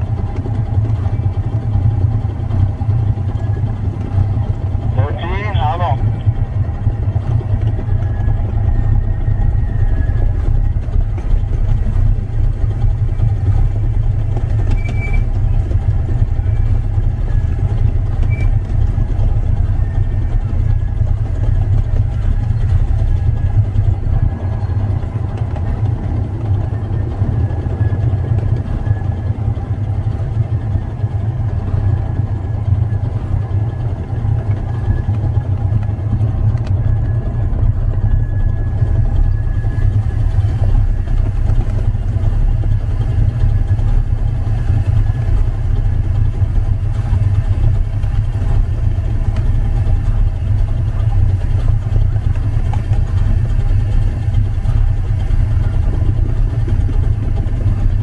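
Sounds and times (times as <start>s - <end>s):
locomotive low rumble: 0.0s - 58.0s.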